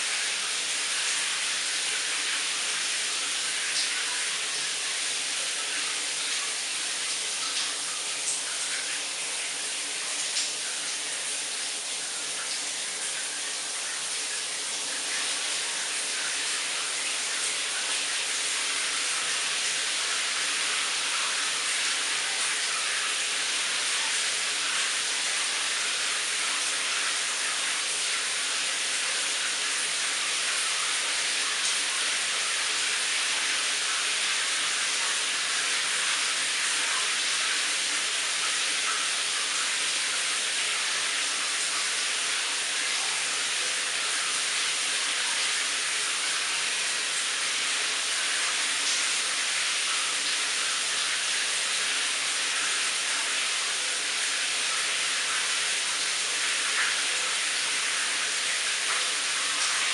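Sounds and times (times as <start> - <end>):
shower water spraying on tiles: 0.0 - 59.9.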